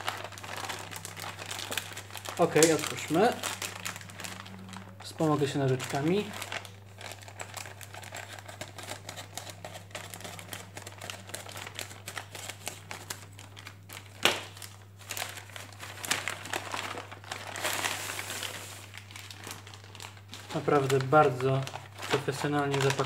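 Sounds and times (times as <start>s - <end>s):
low steady hum: 0.0s - 23.0s
plastic crinkling: 0.0s - 23.0s.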